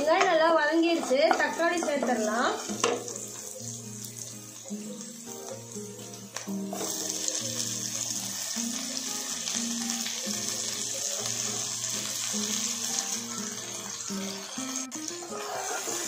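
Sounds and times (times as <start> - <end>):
background music with simple melody: 0.0 - 16.0
tomatoes sizzling in hot oil: 0.0 - 16.0.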